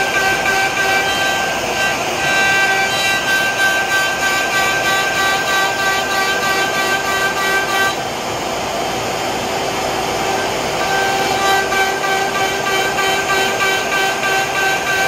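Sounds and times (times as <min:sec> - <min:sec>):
router spindle motor whining: 0:00.0 - 0:08.2, 0:09.0 - 0:15.0
dust collection air rushing: 0:00.0 - 0:14.9.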